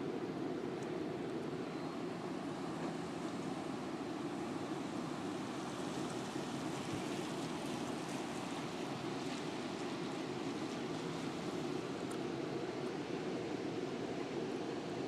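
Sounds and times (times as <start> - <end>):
steady rain hissing: 0.0 - 15.0.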